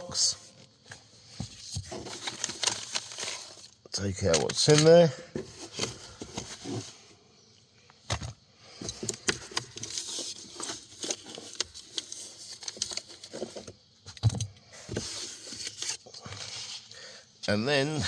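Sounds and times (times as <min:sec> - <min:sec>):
items handled in glove box: 0:00.0 - 0:07.2, 0:07.9 - 0:16.9.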